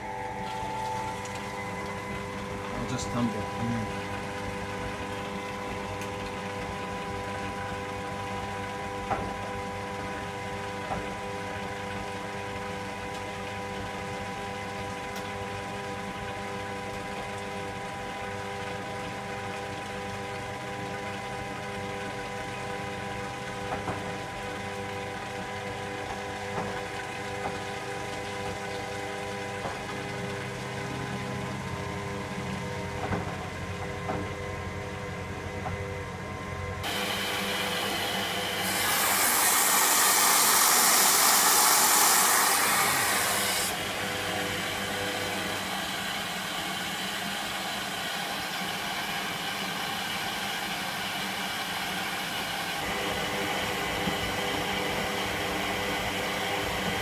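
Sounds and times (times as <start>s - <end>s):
washing machine humming and tumbling: 0.0s - 57.0s.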